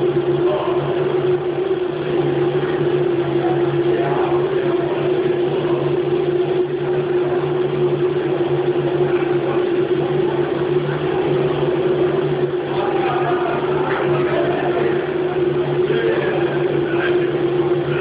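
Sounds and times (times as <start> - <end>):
machine whining over low hum: 0.0 - 18.0.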